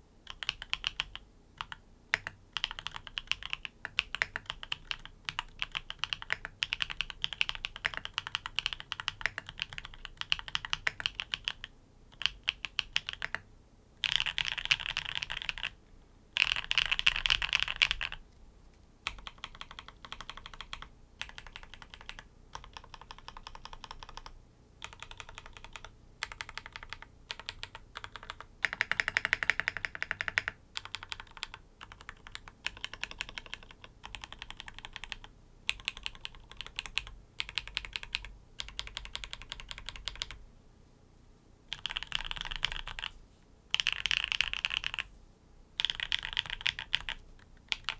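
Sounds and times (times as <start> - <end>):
mechanical keyboard typing: 0.3 - 13.4, 14.0 - 15.8, 16.4 - 18.2, 19.0 - 40.4, 41.7 - 43.1, 43.7 - 45.1, 45.8 - 47.9.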